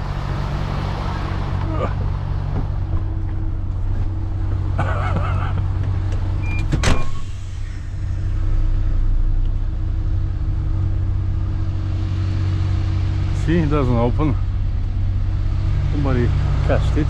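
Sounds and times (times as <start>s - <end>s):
truck diesel engine idling: 0.0s - 6.5s, 7.2s - 17.0s.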